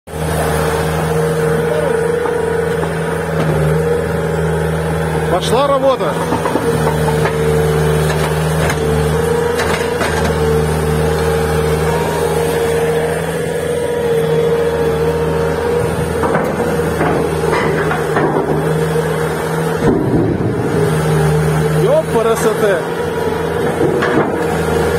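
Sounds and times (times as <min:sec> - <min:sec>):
diesel engine running: 0:00.1 - 0:24.9.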